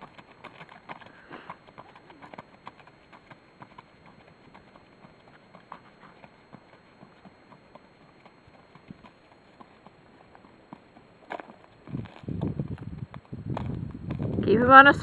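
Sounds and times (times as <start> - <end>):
horse hooves on sand: 0.0 - 15.0.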